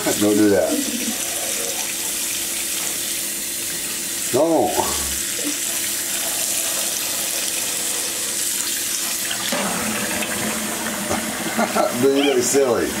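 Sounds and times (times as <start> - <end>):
faucet running into a sink: 0.0 - 13.0.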